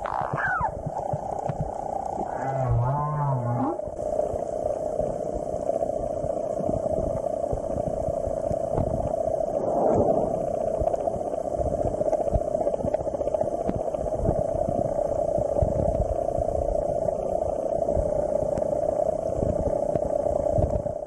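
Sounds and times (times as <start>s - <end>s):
underwater droning hiss: 0.0s - 21.0s.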